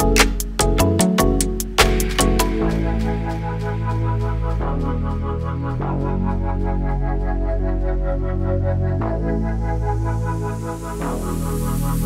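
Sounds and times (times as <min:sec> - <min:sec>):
electronic music with synth chords: 0:00.0 - 0:12.0.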